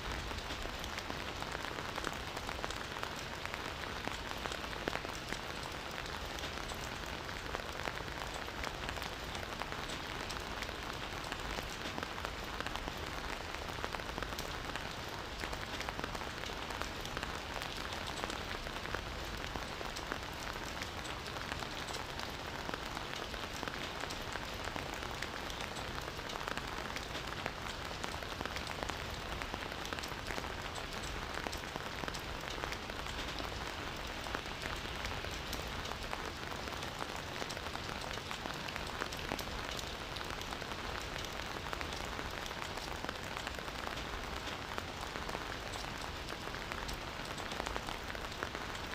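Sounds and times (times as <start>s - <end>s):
rain falling on foliage: 0.0s - 48.9s.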